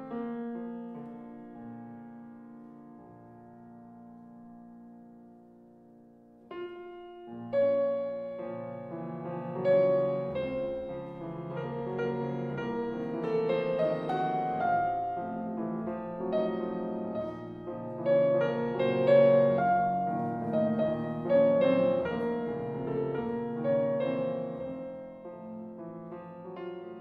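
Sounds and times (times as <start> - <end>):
slow gentle piano piece: 0.0 - 27.0.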